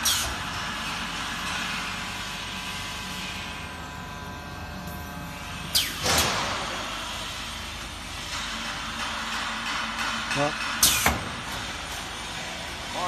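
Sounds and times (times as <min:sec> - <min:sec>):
packing machine humming: 0:00.0 - 0:13.0.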